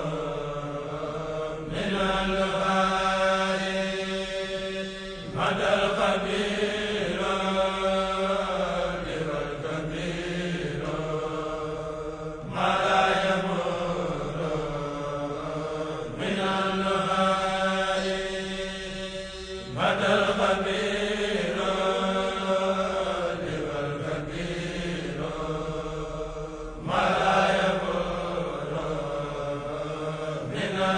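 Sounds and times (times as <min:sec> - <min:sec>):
low held drone tone: 0:00.0 - 0:30.9
person chanting devotional poem: 0:00.0 - 0:30.9.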